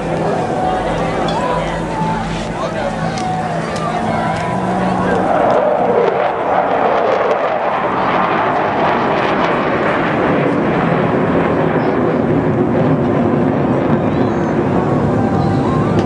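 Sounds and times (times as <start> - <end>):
jet engines flying overhead: 0.0 - 16.0.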